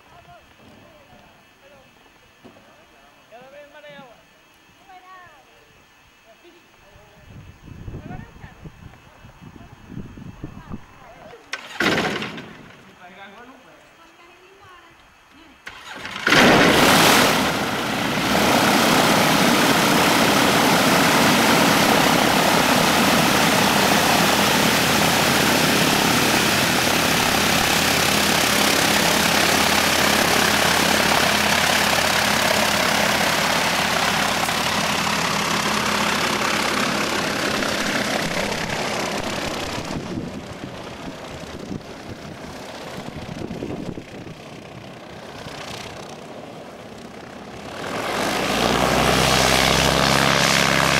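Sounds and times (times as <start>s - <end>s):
propeller aircraft engine: 8.0s - 50.9s.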